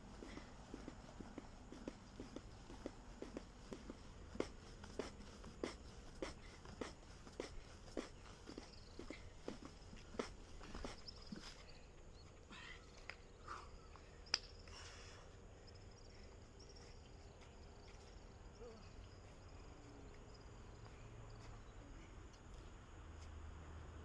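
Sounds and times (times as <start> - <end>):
faint insects chirring: 0.0 - 24.0.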